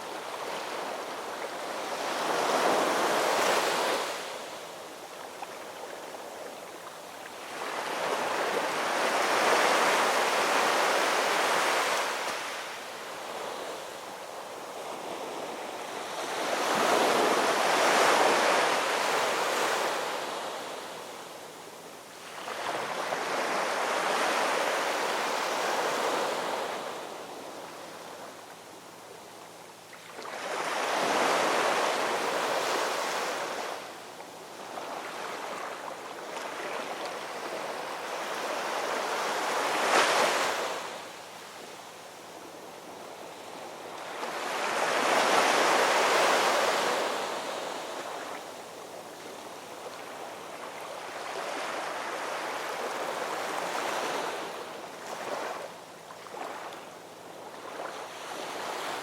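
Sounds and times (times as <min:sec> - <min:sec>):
ocean waves breaking on shore: 0:00.0 - 0:28.4, 0:30.0 - 0:59.0.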